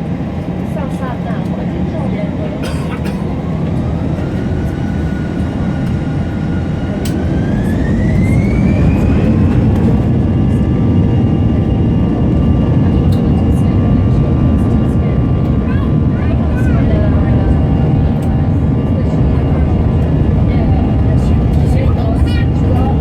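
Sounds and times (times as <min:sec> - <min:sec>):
jet engines spooling up: 0:03.2 - 0:23.0.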